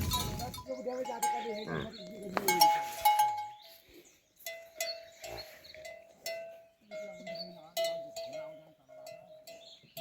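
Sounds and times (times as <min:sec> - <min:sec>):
livestock bells clanking: 0:00.0 - 0:03.6, 0:04.4 - 0:10.0.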